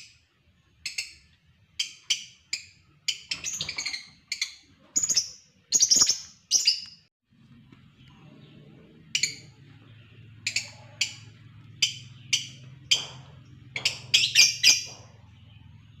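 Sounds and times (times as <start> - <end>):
lovebirds chirping shrilly: 0.0 - 7.1, 9.0 - 16.0.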